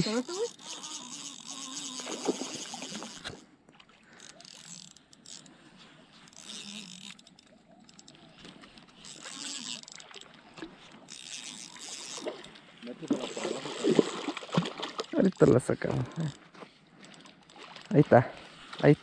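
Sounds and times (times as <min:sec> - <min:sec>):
fishing reel clicking: 0:00.0 - 0:03.5, 0:04.1 - 0:18.2.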